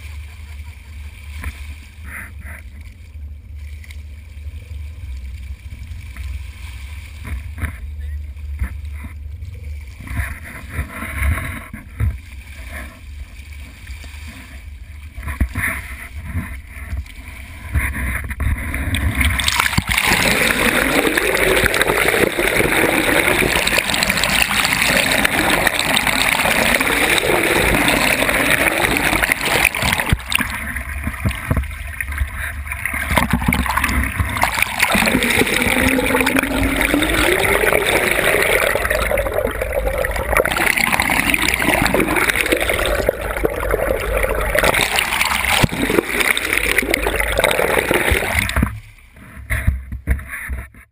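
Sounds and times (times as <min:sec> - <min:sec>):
water sloshing and splashing: 0:00.0 - 0:49.7
underwater rush of water: 0:08.4 - 0:49.7.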